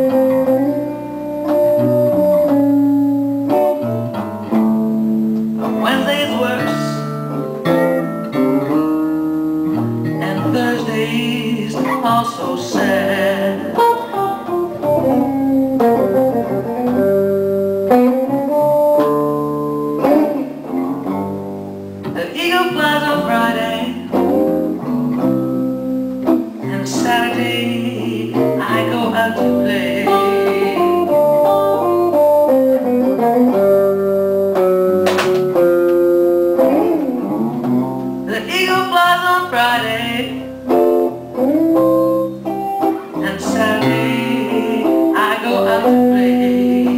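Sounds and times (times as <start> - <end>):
bass line: 0.0 - 46.9
electric guitar lead lines: 0.0 - 46.9
live blues band: 0.0 - 46.9.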